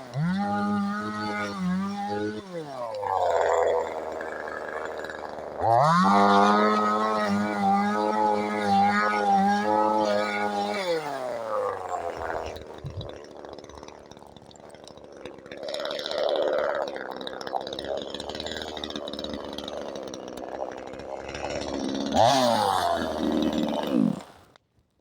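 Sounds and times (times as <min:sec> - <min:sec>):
chainsaw running and revving: 0:00.0 - 0:24.6.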